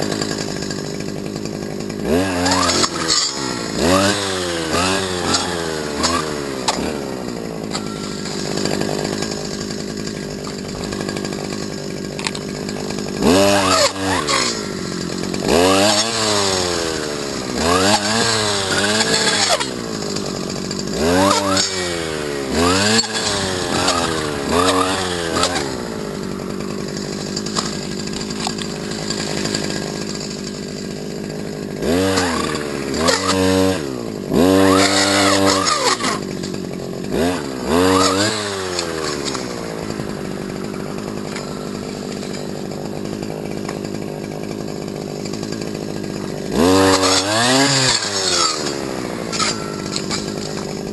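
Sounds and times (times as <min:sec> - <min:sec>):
brush cutter engine revving: 0:00.0 - 0:50.9.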